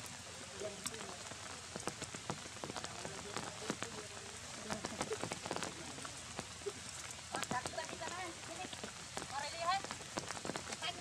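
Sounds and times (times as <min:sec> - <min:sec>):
rain on ground and leaves: 0:00.0 - 0:11.0
drip ticks: 0:00.6 - 0:10.9.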